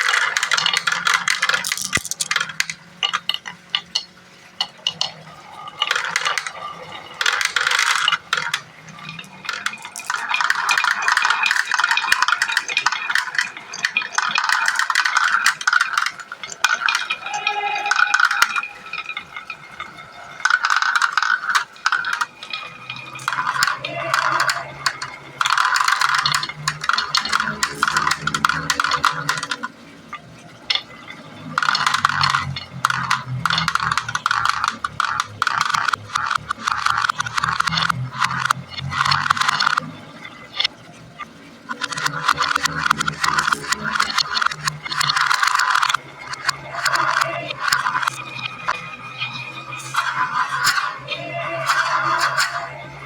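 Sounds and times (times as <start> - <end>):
marbles rolling and clattering: 0.0 - 53.0.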